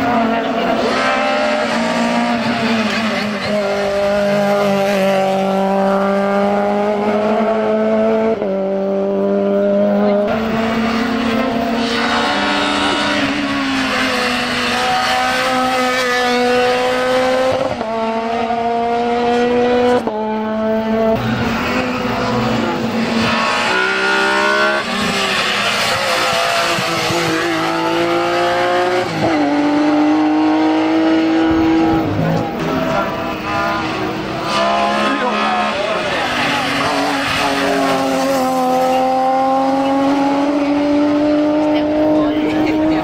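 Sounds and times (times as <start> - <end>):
race car engines accelerating: 0.0 - 43.0.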